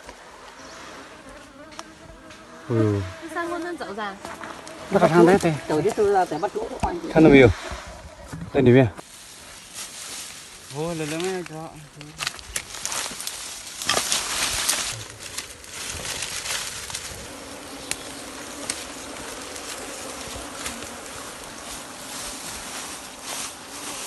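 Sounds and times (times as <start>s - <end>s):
honeybees buzzing: 0.0s - 9.0s, 10.6s - 24.0s.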